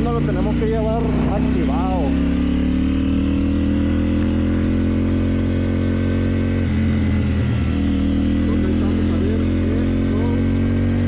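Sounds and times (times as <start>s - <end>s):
motorcycle engine pulling under throttle: 0.0s - 11.0s.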